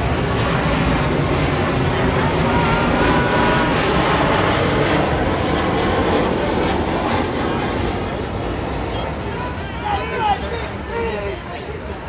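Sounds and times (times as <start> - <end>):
airplane flying overhead: 0.0 - 12.0.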